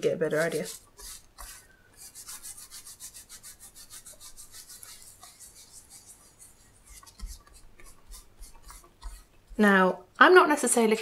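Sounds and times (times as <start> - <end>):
sponge scrubbing on paper: 0.0 - 9.8.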